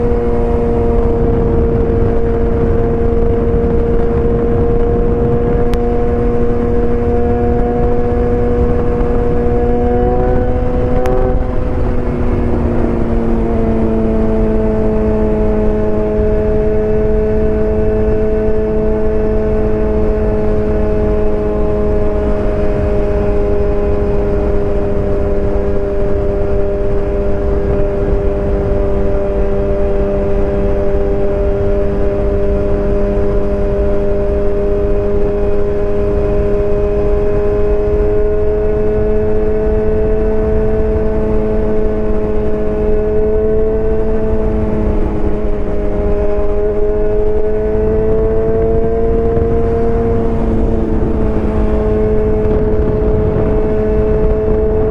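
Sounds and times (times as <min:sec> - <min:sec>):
motorcycle engine droning: 0:00.0 - 0:54.9.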